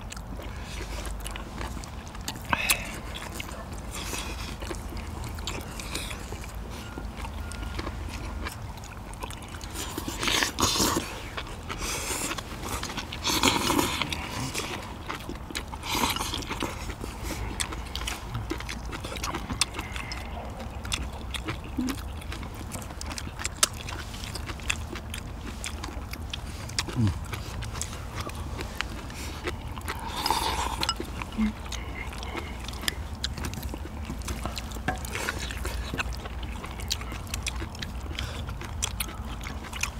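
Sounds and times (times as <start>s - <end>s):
people chewing and slurping: 0.0s - 39.9s.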